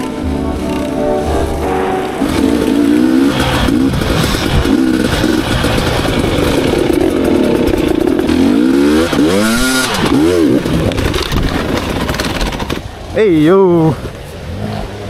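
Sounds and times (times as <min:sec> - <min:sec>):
dirt bike engine revving: 0:00.0 - 0:13.1.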